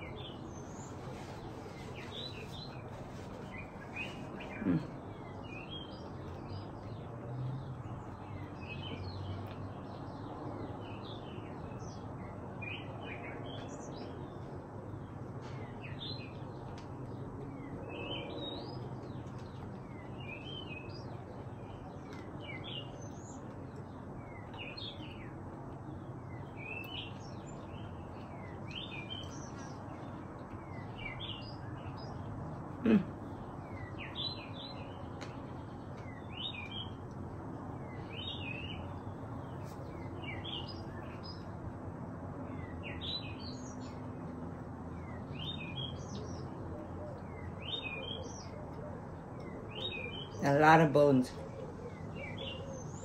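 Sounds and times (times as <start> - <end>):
low ambient hum: 0.0 - 53.0
small birds chirping: 0.0 - 53.0.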